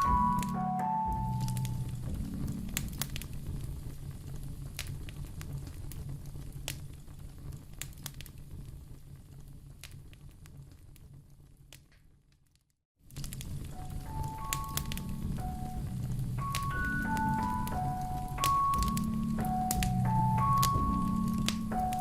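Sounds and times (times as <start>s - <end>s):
low rumble: 0.0s - 10.2s, 13.2s - 22.0s
sharp fire pops: 0.0s - 22.0s
wood fire crackling: 0.0s - 22.0s.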